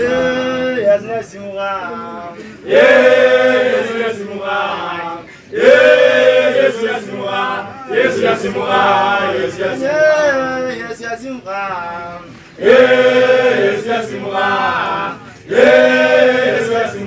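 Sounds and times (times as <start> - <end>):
choir chanting a hymn: 0.0 - 10.6, 12.2 - 17.0.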